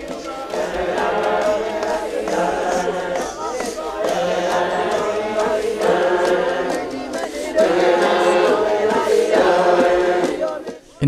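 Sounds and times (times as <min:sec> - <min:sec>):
group singing without instruments: 0:00.0 - 0:11.0.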